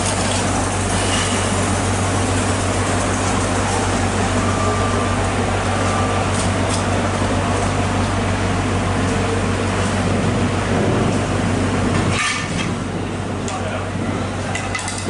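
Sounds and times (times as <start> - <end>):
machine drone: 0.0 - 15.0.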